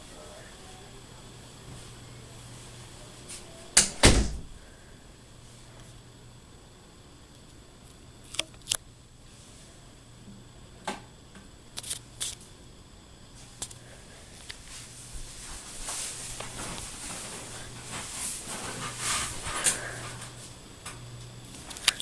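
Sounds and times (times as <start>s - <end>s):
ceiling fan motor hum: 0.0s - 22.0s.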